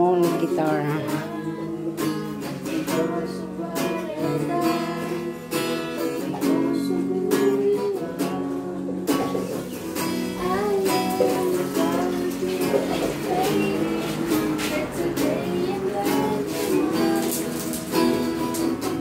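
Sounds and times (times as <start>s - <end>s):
acoustic guitar strumming: 0.0s - 19.0s
person singing: 0.0s - 19.0s.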